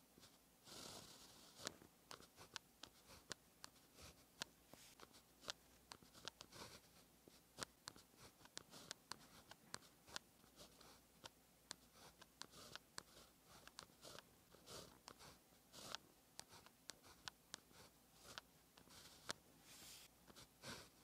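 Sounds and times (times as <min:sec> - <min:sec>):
pen scratching on paper: 0:00.2 - 0:21.0.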